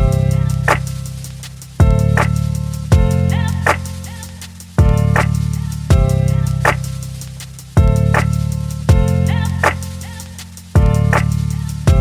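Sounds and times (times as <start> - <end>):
deep bass notes: 0.0 - 12.0.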